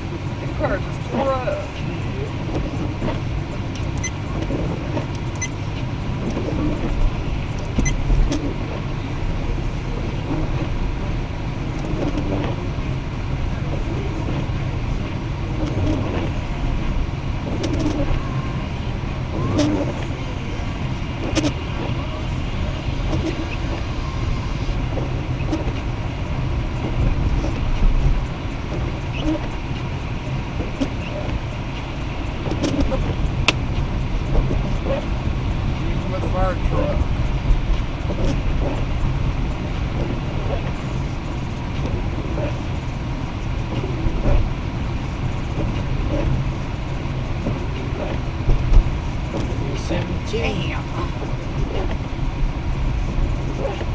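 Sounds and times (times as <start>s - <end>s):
car engine and tyres rumbling: 0.0s - 53.9s.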